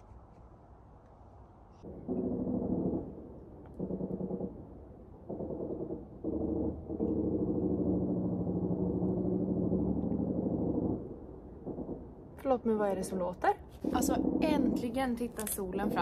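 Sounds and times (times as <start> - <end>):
low droning hum: 1.7 - 16.0.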